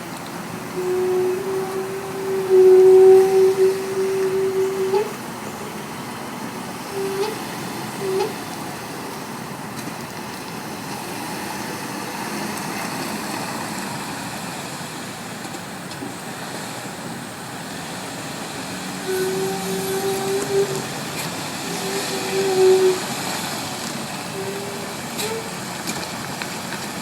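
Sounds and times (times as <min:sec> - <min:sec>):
low-pitched brake squeal: 0:00.0 - 0:14.2, 0:18.0 - 0:26.7
road and tyre noise: 0:00.0 - 0:27.0.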